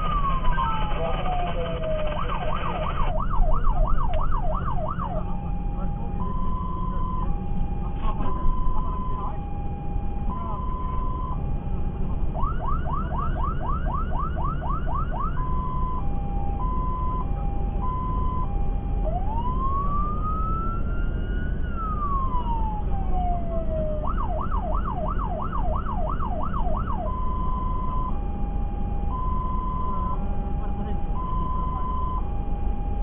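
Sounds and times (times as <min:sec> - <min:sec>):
fire engine siren: 0:00.0 - 0:33.0
truck engine and tyres drone: 0:00.0 - 0:33.0.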